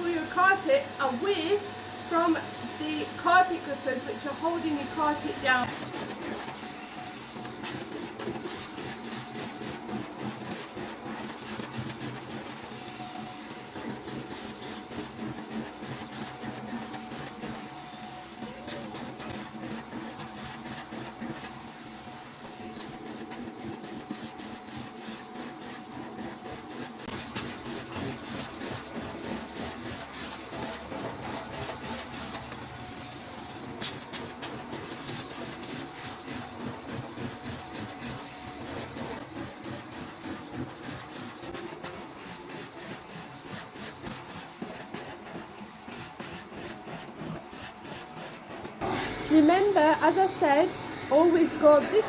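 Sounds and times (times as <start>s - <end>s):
vacuum cleaner running: 0.0s - 52.0s
vacuum nozzle rubbing on carpet: 0.0s - 52.0s.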